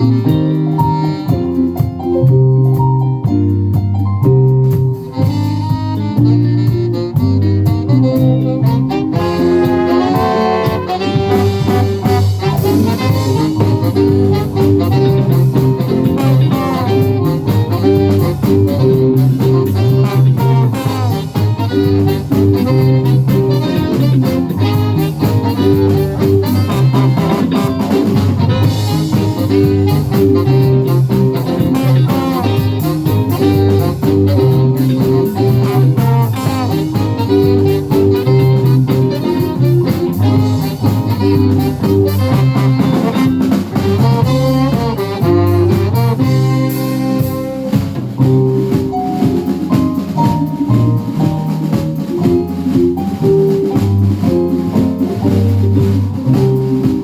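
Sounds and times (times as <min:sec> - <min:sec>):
saxophone: 0:00.0 - 0:02.6, 0:04.6 - 0:57.0
bass line: 0:00.0 - 0:57.0
drums: 0:00.0 - 0:57.0.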